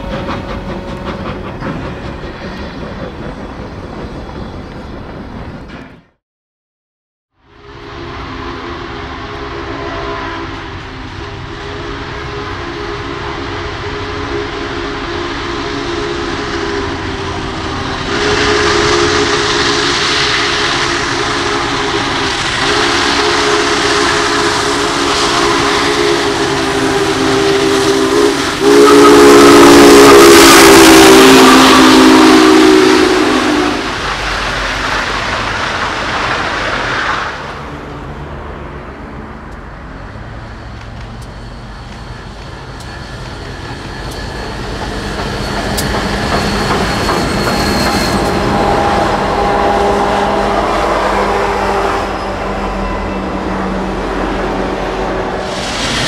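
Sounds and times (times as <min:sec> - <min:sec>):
steam locomotive chime whistle: 0:00.0 - 0:02.9, 0:07.4 - 0:34.1, 0:39.8 - 0:56.0
passing train rumble: 0:00.0 - 0:06.2, 0:07.3 - 0:56.0.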